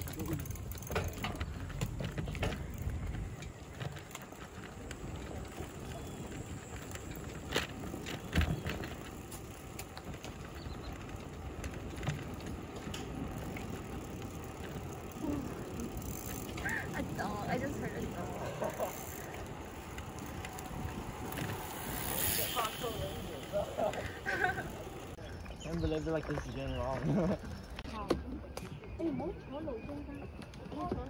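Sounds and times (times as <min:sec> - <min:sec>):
bike clicks and rattles: 0:00.0 - 0:28.8
bicycle rolling on asphalt: 0:00.0 - 0:31.0.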